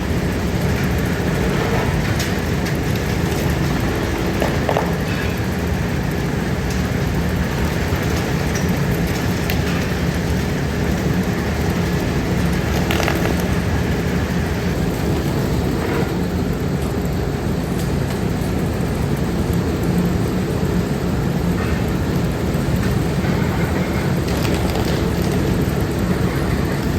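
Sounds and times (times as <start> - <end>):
heavy machinery humming: 0.0 - 26.9.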